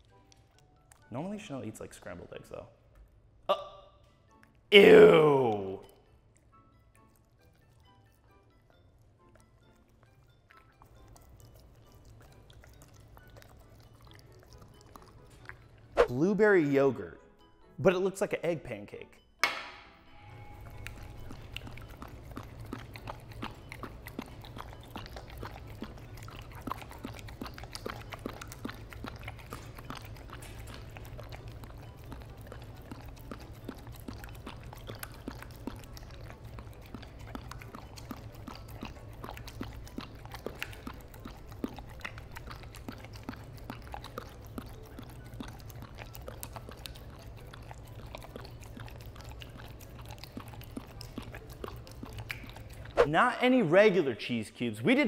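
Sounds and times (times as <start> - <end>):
dog licking and chewing: 0.0 - 3.1, 4.0 - 17.1, 20.3 - 55.0.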